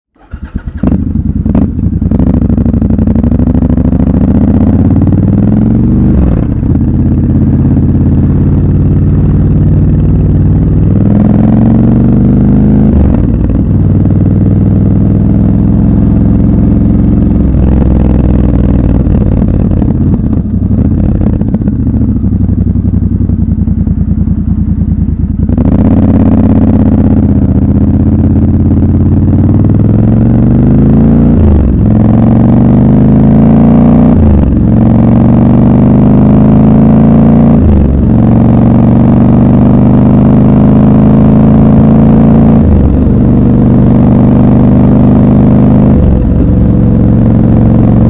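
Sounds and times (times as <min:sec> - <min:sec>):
motorcycle engine accelerating: 0:00.1 - 0:48.0.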